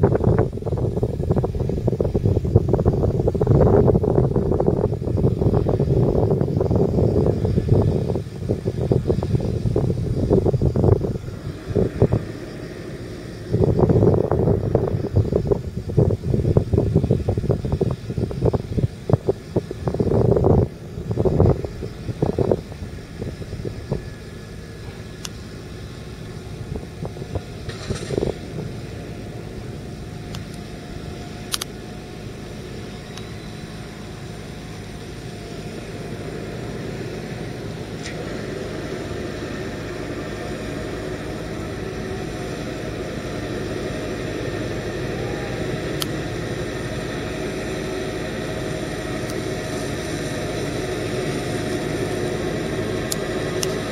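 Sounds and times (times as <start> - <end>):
faint steady whine: 0.0 - 53.9
loud rumbling bursts: 0.0 - 53.9
tractor diesel engine running: 0.0 - 53.9.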